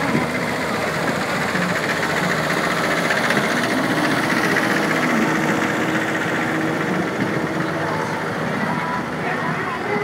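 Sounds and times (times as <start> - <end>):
small tractor engine running: 0.0 - 10.0.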